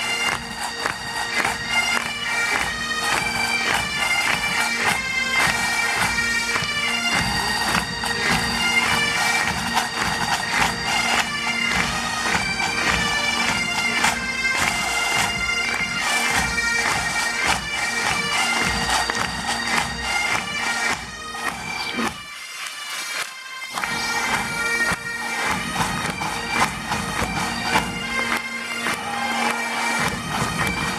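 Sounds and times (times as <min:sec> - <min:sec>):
bagpipe chanter melody: 0:00.0 - 0:30.9
bagpipe drone: 0:00.0 - 0:30.9.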